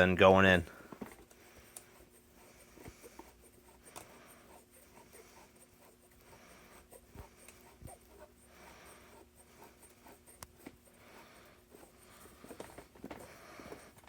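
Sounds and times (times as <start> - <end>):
vise screw scraping: 0.0 - 14.0.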